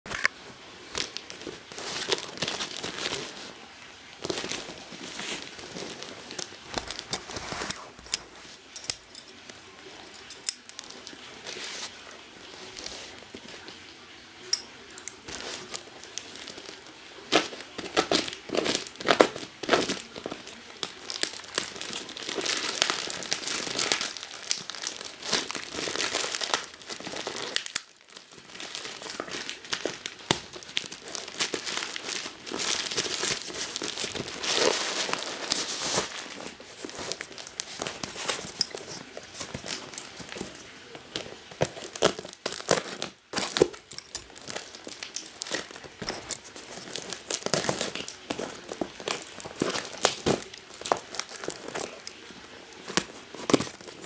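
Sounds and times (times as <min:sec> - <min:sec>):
plastic bag crinkling and tearing: 0:00.1 - 0:54.0.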